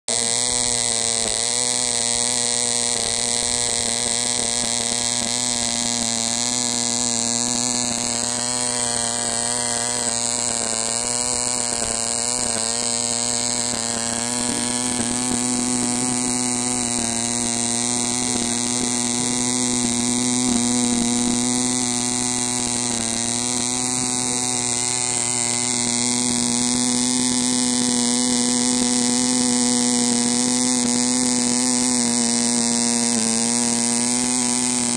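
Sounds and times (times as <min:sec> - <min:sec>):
model engine high-pitched whine: 0:00.0 - 0:34.9.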